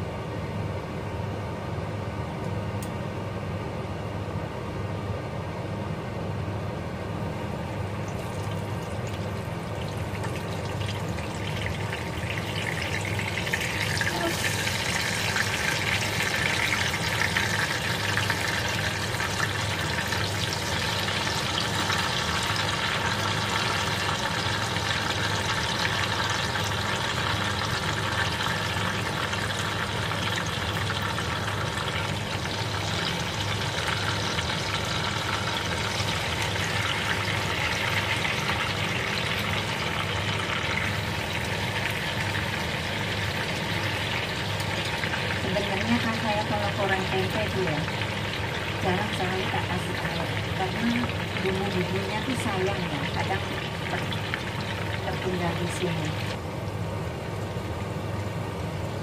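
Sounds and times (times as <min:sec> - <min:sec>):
low steady hum: 0:00.0 - 0:59.0
food sizzling in hot oil: 0:07.9 - 0:56.4.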